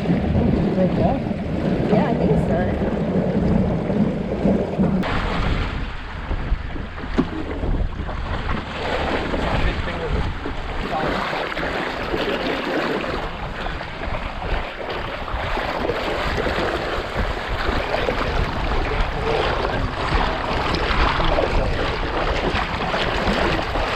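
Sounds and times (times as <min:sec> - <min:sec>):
water washing against hull: 0:00.0 - 0:23.9
wind buffeting microphone: 0:00.0 - 0:23.9.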